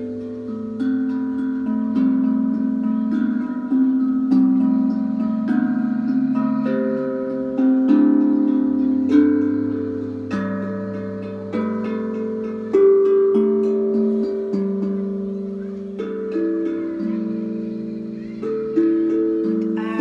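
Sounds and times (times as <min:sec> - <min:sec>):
plucked string instrument melody: 0:00.0 - 0:20.0.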